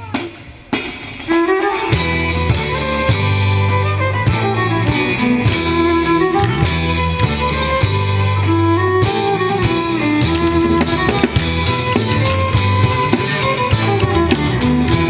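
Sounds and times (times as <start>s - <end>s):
bass and drum beat: 0.0s - 15.0s
melodic lead line: 1.3s - 15.0s.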